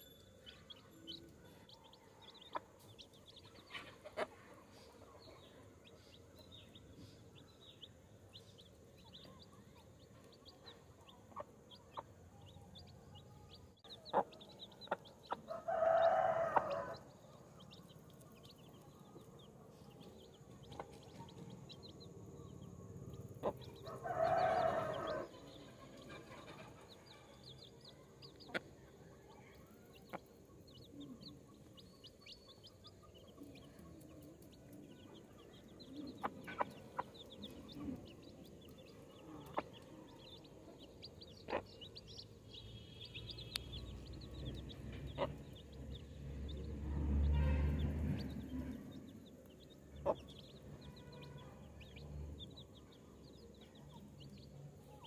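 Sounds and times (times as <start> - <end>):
baby chicks peeping: 0.0 - 55.0.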